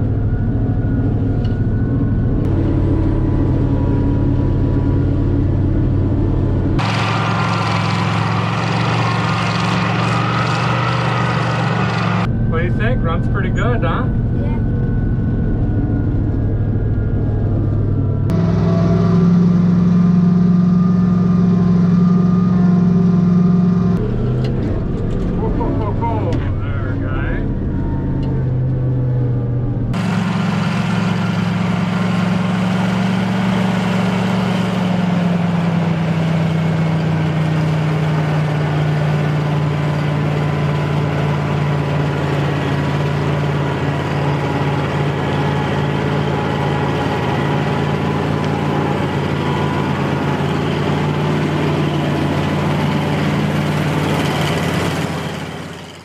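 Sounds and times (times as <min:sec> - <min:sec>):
combine engine running: 0:00.0 - 0:56.0.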